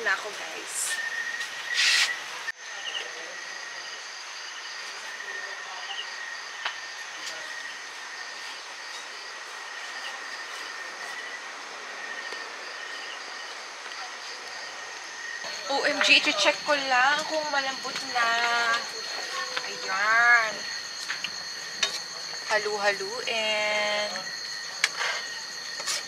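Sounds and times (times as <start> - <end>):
insect chirps: 0.0 - 26.0
insects buzzing: 0.0 - 26.0.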